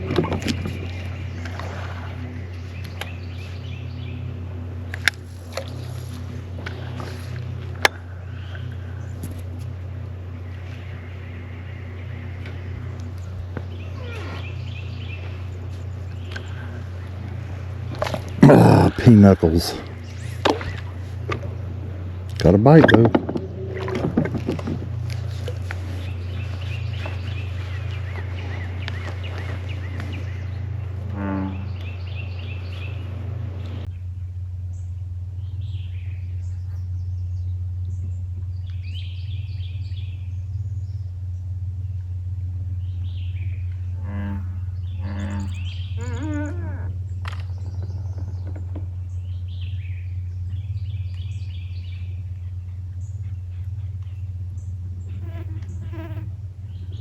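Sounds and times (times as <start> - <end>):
birds chirping: 0.0 - 57.0
songbird calling: 0.0 - 57.0
steady low hum: 0.0 - 57.0.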